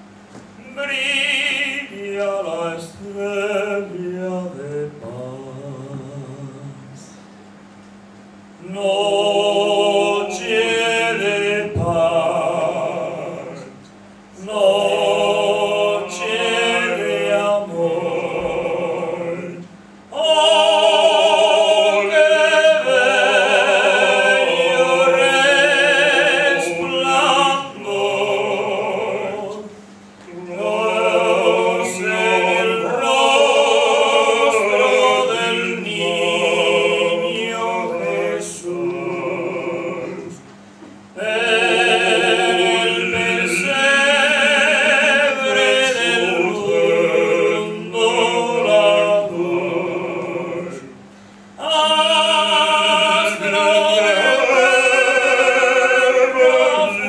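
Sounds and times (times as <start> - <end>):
two men singing operatic duet: 0.6 - 6.9, 8.6 - 13.7, 14.4 - 29.7, 30.3 - 40.4, 41.2 - 50.9, 51.6 - 57.0.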